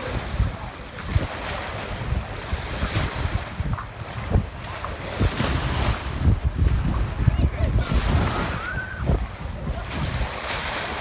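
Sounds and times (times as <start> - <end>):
sea waves on a beach: 0.0 - 11.0
wind buffeting microphone: 0.0 - 11.0.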